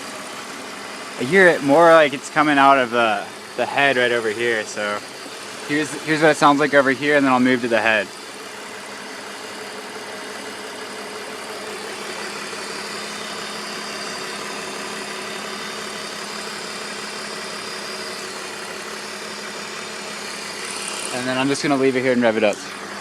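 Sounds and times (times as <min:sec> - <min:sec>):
car engine idling with ticking: 0:00.0 - 0:23.0.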